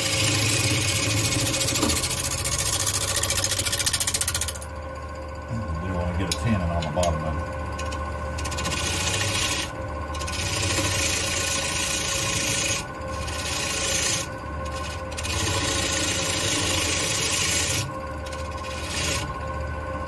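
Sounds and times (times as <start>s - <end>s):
gouge scraping spinning wood: 0.0s - 4.7s, 5.5s - 19.6s
lathe motor hum: 0.0s - 20.0s.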